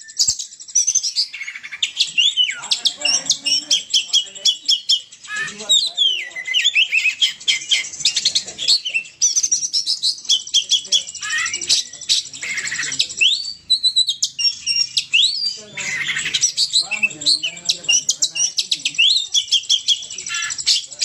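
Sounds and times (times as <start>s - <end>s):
bird singing varied whistles: 0.0s - 21.0s.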